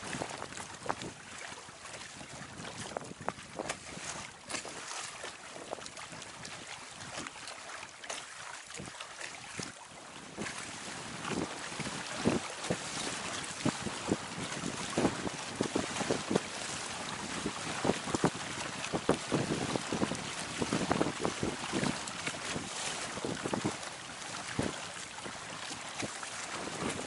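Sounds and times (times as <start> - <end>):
wind noise on microphone: 0.0 - 7.5, 8.7 - 27.0
water rushing along hull: 0.0 - 27.0
water slapping: 0.0 - 27.0.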